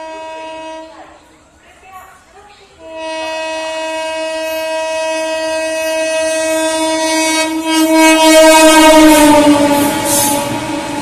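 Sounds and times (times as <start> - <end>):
train horn blast: 0.0 - 1.1, 2.8 - 11.0
train running past: 0.0 - 11.0.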